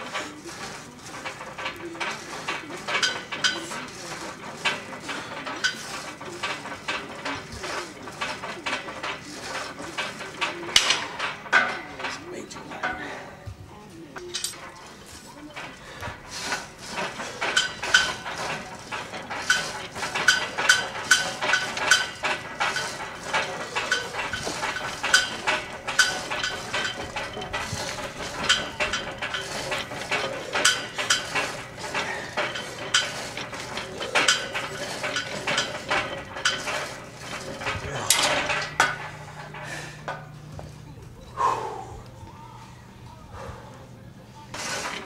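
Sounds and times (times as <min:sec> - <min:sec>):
weight stack plates clanking: 0:00.0 - 0:43.1, 0:43.8 - 0:45.0.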